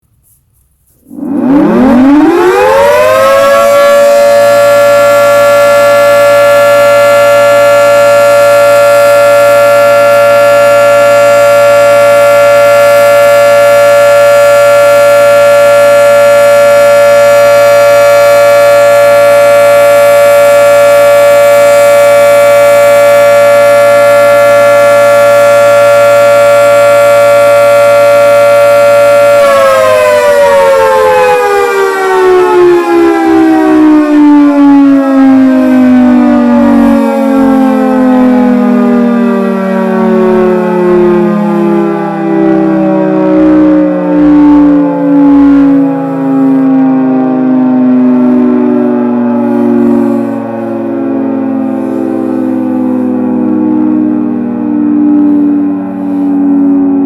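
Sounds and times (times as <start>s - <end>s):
dual-tone warning siren: 0.9s - 57.0s.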